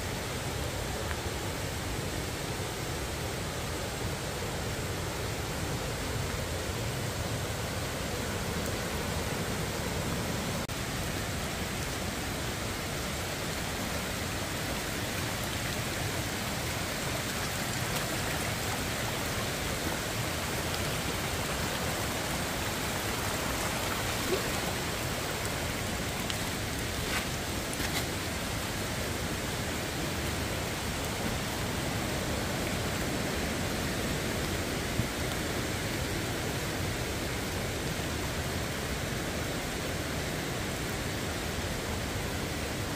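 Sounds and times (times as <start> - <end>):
falling rain: 0.0 - 42.9
stream rushing over rapids: 0.0 - 42.9.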